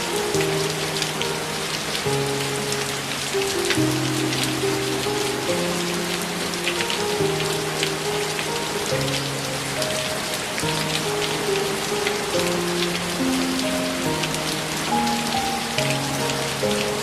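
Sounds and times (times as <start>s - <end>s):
rain pattering on a surface: 0.0s - 17.0s
soft slow background music: 0.0s - 17.0s.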